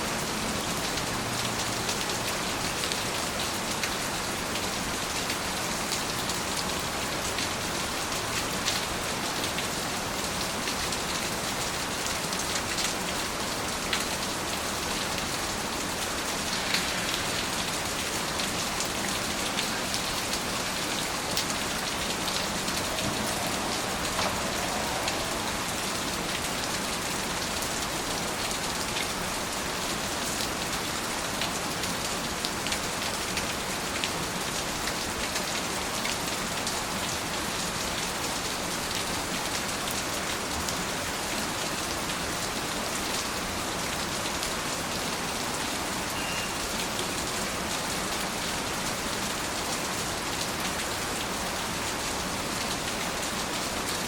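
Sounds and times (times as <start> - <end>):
steady rain with drop taps: 0.0 - 54.0.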